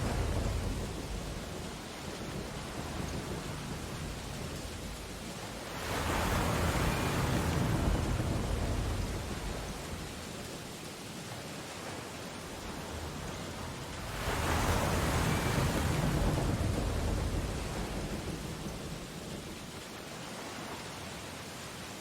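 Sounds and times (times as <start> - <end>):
ocean wave breaking and washing: 0.0 - 22.0.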